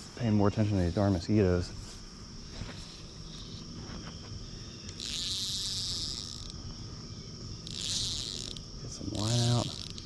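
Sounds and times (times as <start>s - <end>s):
crickets and insects droning: 0.0s - 10.0s
high hissing buzz: 0.0s - 10.0s.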